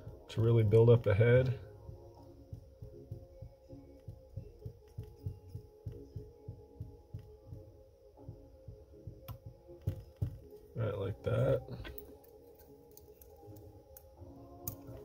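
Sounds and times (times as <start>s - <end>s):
soft low thumps of thread wrapping: 0.0s - 12.3s.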